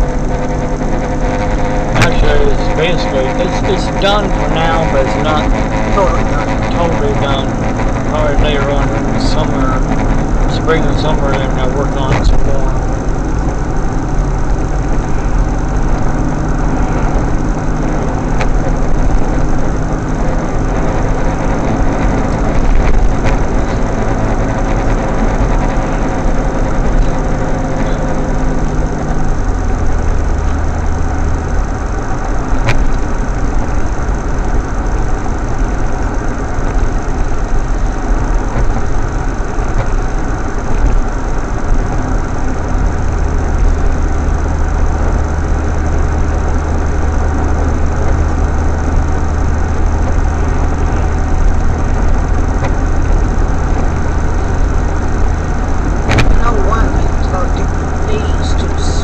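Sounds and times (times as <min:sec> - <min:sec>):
car engine inside cabin: 0:00.0 - 0:59.0
road noise: 0:00.0 - 0:59.0.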